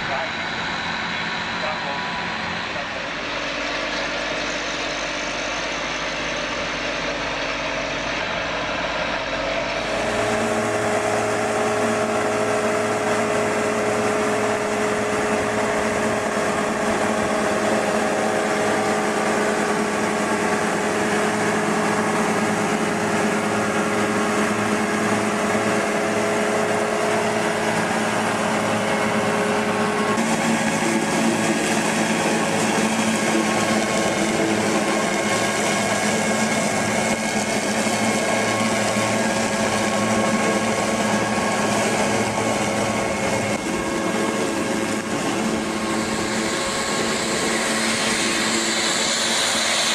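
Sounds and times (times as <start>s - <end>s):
tractor diesel engine droning: 0.0s - 49.9s
tractor pulling a plough: 0.0s - 49.9s.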